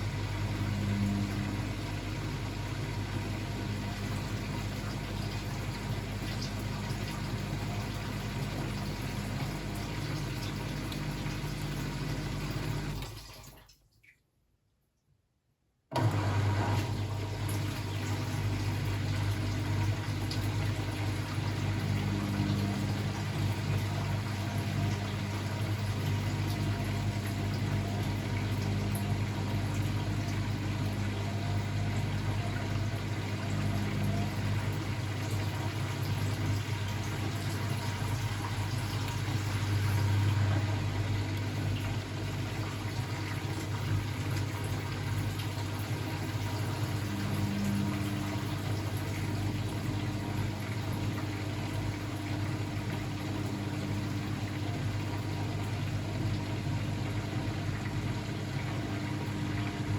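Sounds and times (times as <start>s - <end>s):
washing machine humming: 0.0s - 13.8s, 15.9s - 59.9s.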